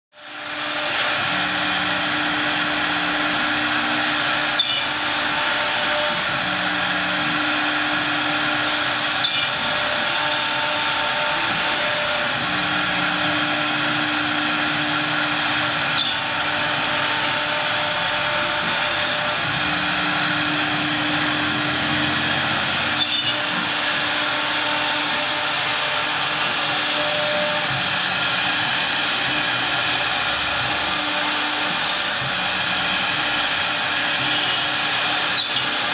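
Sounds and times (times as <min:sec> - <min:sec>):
cnc router cutting: 0:00.2 - 0:35.9.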